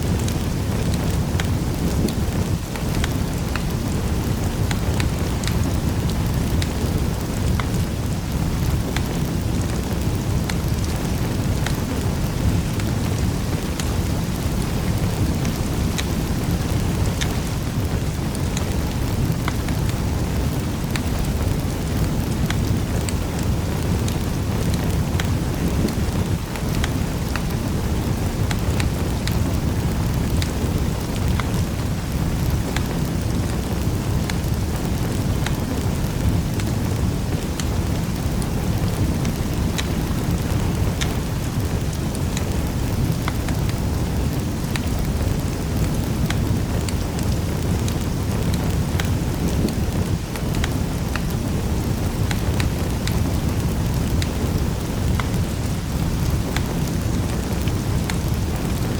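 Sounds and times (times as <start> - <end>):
fire crackles and pops: 0.0 - 58.9
wood fire rumbling: 0.0 - 58.9.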